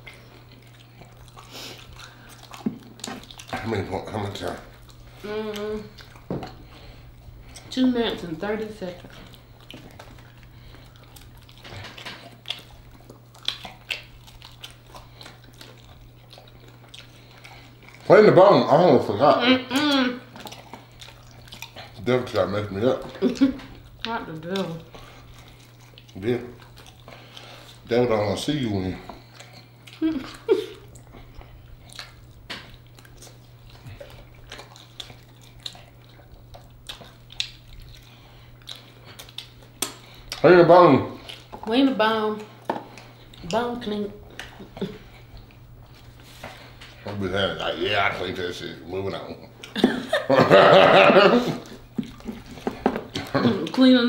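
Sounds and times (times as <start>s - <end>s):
chewing and biting: 0.0s - 49.8s, 51.4s - 54.0s.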